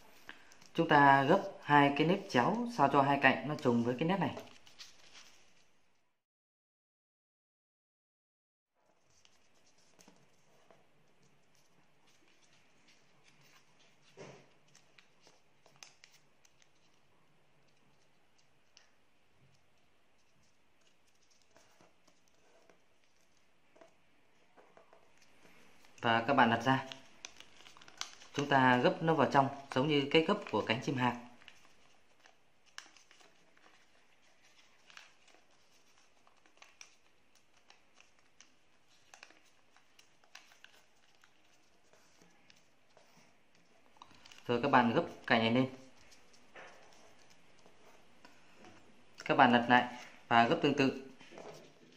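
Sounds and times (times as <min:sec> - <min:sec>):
paper creasing clicks and rustles: 0:03.6 - 0:05.8, 0:08.9 - 0:51.9.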